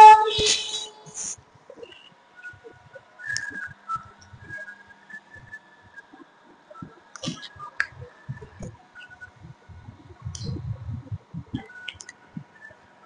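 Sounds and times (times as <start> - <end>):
faint steady pa tone: 0.0 - 13.0.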